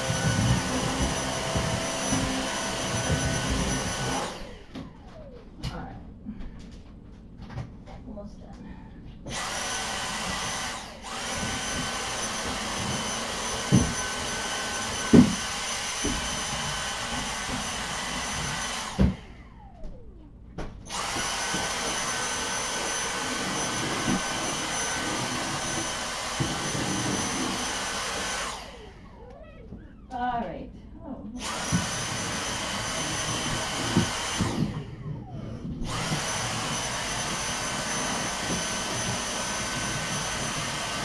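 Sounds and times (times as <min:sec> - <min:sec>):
vacuum cleaner whining: 0:00.0 - 0:08.0, 0:09.1 - 0:41.0.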